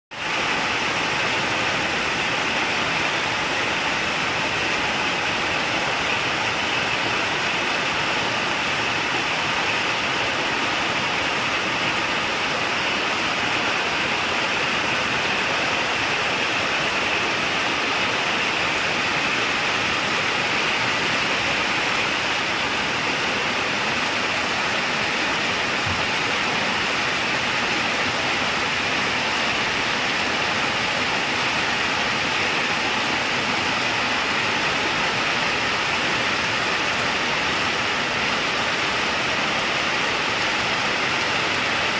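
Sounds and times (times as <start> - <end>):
heavy rain falling: 0.1 - 41.9.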